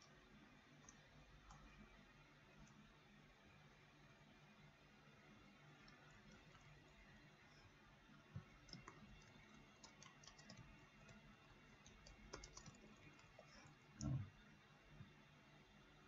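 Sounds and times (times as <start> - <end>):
faint keyboard typing: 0.0 - 15.2.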